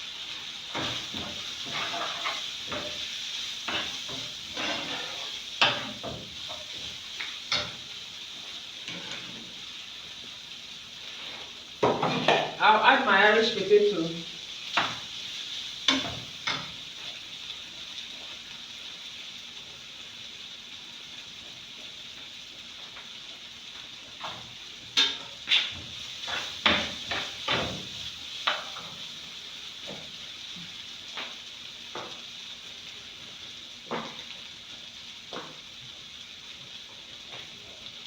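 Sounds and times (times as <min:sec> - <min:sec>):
food sizzling in a pot: 0:00.0 - 0:38.0.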